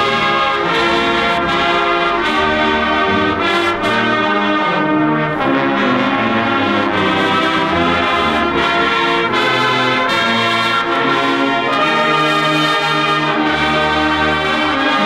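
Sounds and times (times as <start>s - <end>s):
deep bass brass: 0.0s - 15.0s
marching band brass chords: 0.0s - 15.0s.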